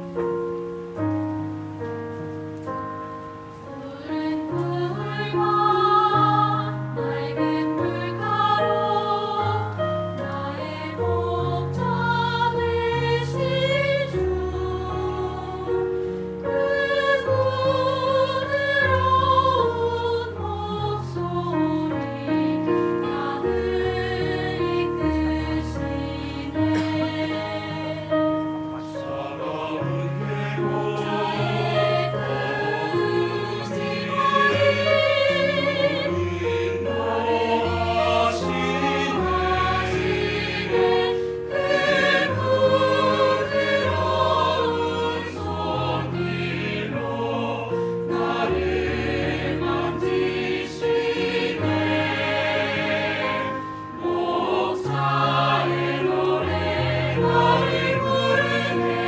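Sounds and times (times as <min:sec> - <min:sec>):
piano accompaniment: 0:00.0 - 0:59.0
mixed choir singing: 0:03.4 - 0:59.0.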